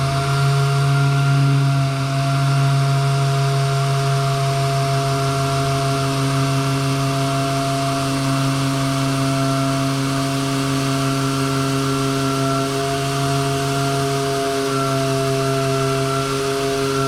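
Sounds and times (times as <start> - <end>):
power sander on wood: 0.0 - 17.0.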